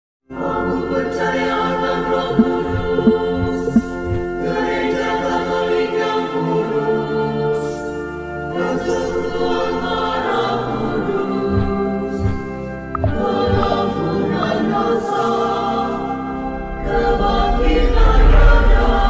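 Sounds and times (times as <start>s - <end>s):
choir singing long chords: 0.3s - 19.0s.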